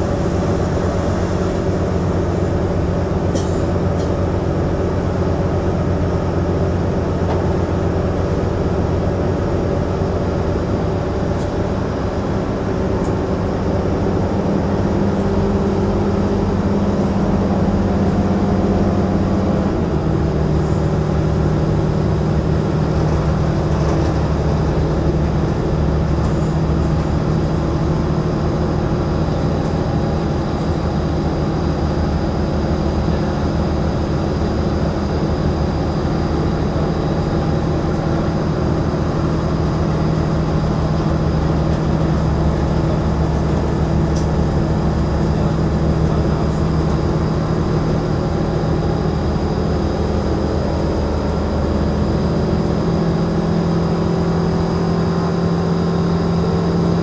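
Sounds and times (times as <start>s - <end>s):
train cabin hum and rumble: 0.0s - 57.0s.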